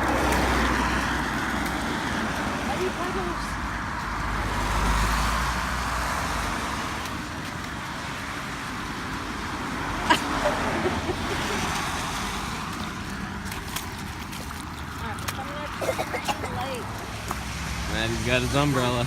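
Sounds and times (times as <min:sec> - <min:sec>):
car passing on wet road: 0:00.0 - 0:19.0.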